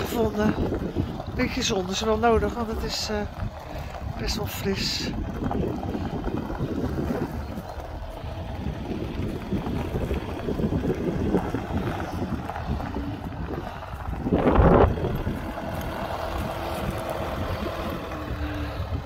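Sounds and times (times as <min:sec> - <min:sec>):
motorhome engine driving past: 0:00.0 - 0:19.0
wind buffeting microphone: 0:00.0 - 0:19.0.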